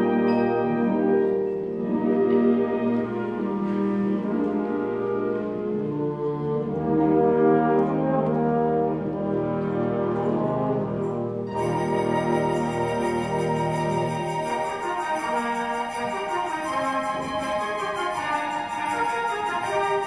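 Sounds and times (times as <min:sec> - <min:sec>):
wind orchestra playing a carol: 0:00.0 - 0:20.0.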